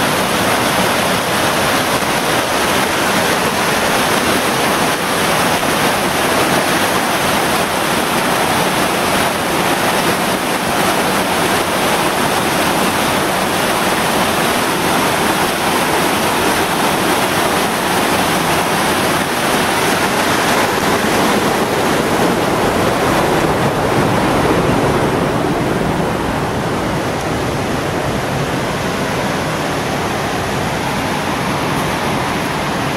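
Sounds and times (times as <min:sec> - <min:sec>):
water rushing over rocks: 0:00.0 - 0:32.9.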